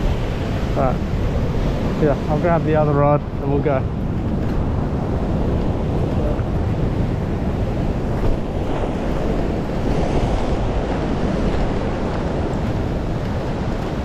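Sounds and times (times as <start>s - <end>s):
surf washing over rocks: 0.0s - 14.0s
wind buffeting microphone: 0.0s - 14.0s.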